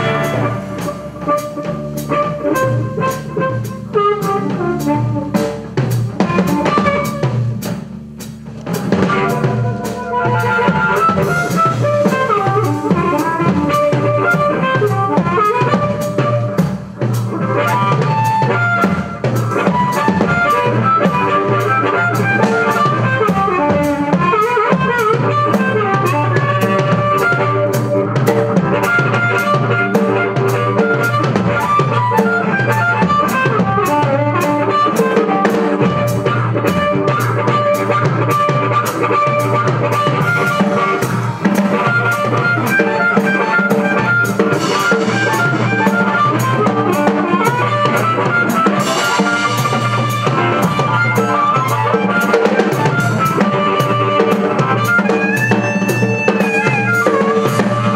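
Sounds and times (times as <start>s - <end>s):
blues band playing live: 0.0s - 57.9s
drum kit beat: 0.0s - 57.9s.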